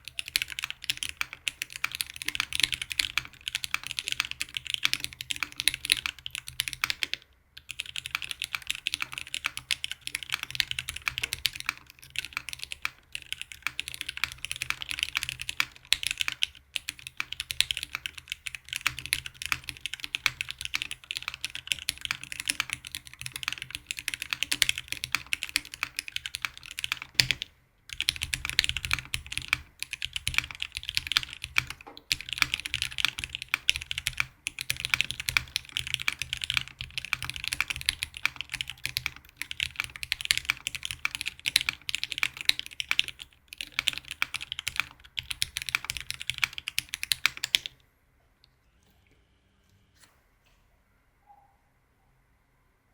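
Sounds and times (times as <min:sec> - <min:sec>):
fast typing on mechanical keyboard: 0:00.0 - 0:47.8.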